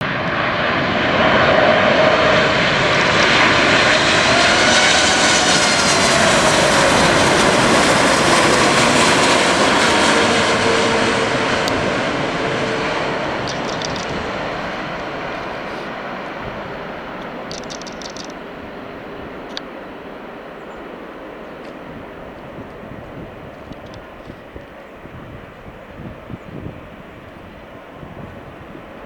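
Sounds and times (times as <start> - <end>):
jet engine roar passing by: 0.0 - 29.0.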